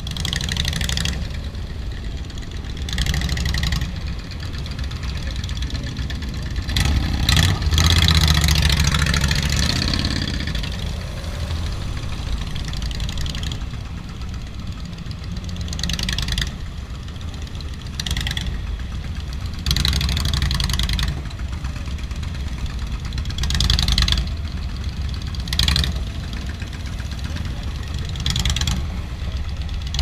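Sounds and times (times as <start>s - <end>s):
motorcycle engines rumbling: 0.0s - 30.0s
motorcycle revving: 0.0s - 30.0s.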